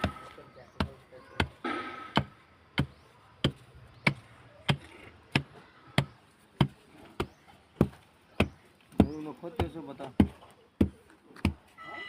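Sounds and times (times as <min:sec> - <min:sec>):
sharp knocks: 0:00.0 - 0:11.6.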